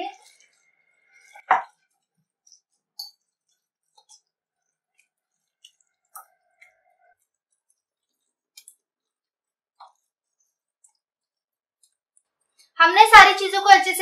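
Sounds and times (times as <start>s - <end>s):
hand mixing wet batter: 0.0s - 12.8s.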